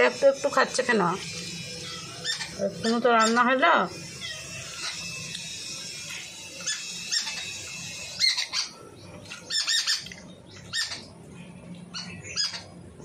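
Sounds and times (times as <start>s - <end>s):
high-pitched animal calls: 0.0s - 11.2s, 11.9s - 13.0s.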